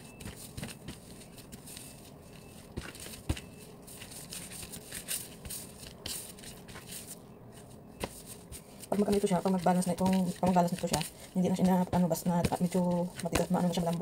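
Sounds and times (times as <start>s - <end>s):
dough squishing and patting: 0.0s - 14.0s.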